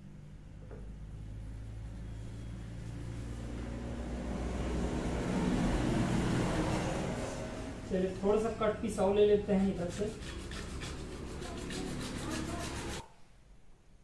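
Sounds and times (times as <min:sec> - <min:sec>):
vehicle passing: 0:00.0 - 0:13.0.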